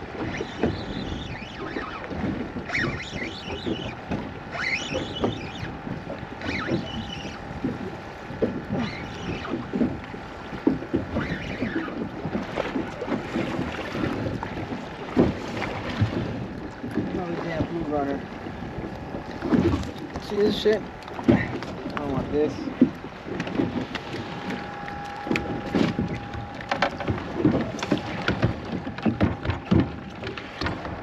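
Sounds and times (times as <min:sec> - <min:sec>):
water slapping boat hull: 0:00.0 - 0:31.0.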